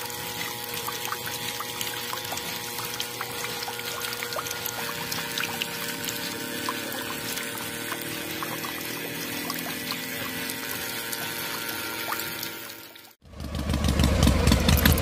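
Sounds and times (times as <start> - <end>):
faint pump hum: 0.0 - 13.1
water splashing onto concrete: 0.0 - 13.2.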